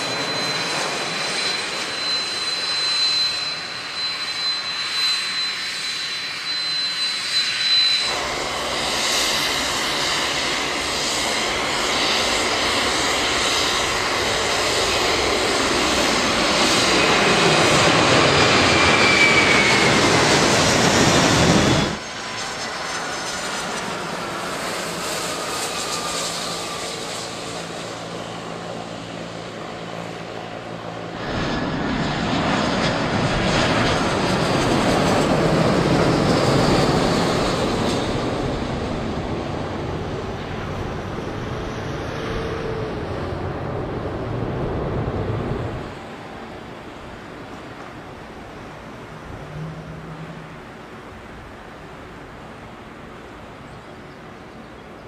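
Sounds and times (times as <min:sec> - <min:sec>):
jet engines on approach: 0:00.0 - 0:55.0
jet passing overhead: 0:00.0 - 0:55.0
steady jet engine noise: 0:00.0 - 0:55.0.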